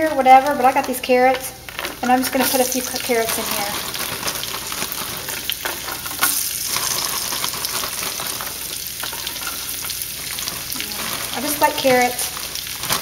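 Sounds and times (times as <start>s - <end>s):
food sizzling in a skillet: 1.6s - 13.0s.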